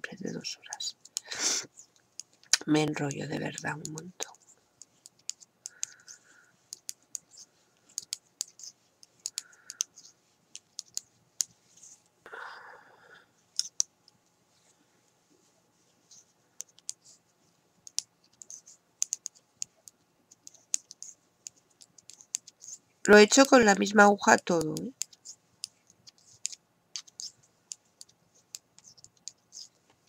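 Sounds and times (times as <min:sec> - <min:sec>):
knitting needles clicking: 0:00.2 - 0:12.0, 0:13.5 - 0:13.9, 0:16.1 - 0:17.2, 0:17.8 - 0:30.0.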